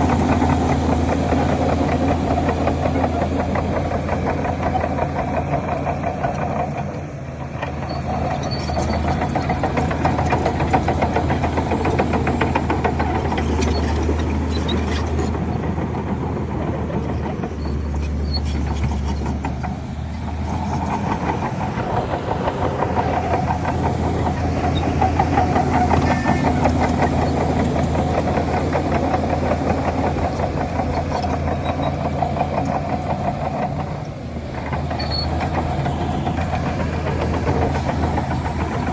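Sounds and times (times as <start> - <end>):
bulldozer diesel engine under load: 0.0 - 38.9.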